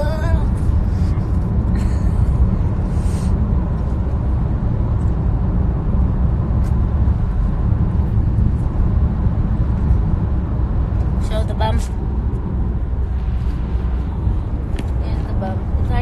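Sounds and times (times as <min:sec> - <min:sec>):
road and wind noise in car: 0:00.0 - 0:16.0.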